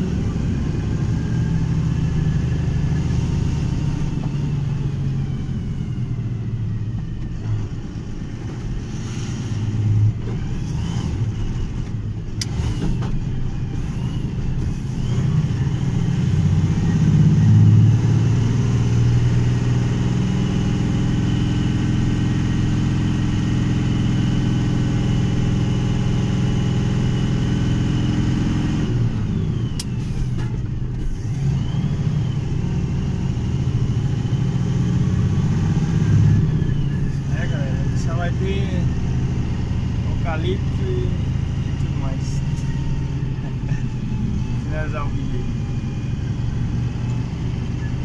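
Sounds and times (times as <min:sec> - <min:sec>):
vehicle engine: 0:00.0 - 0:48.0.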